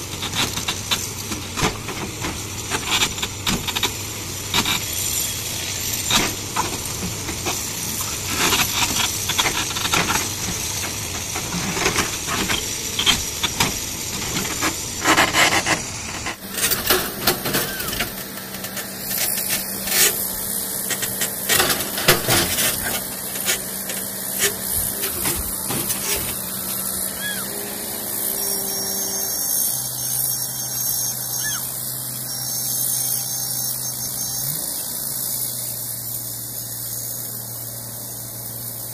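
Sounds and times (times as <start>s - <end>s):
machinery hiss and rasp: 0.0s - 38.9s.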